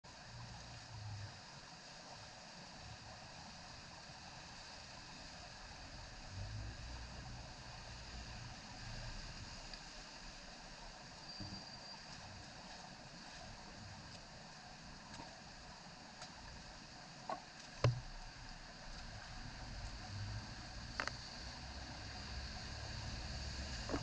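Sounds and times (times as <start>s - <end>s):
steady rain falling: 0.1s - 24.0s.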